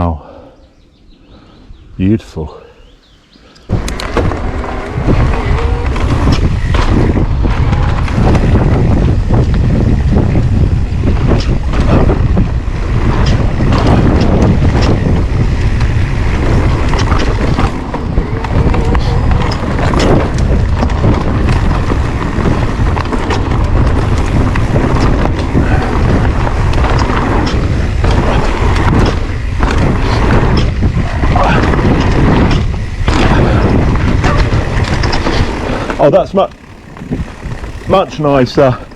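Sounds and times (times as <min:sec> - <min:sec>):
bike knocking and rattling: 0:03.6 - 0:38.9
wind rumble on microphone: 0:03.7 - 0:38.9.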